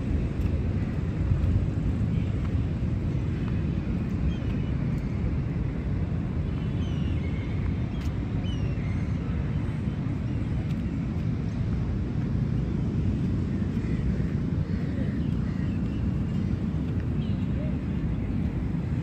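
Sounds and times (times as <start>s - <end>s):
distant traffic rumble: 0.0s - 19.0s.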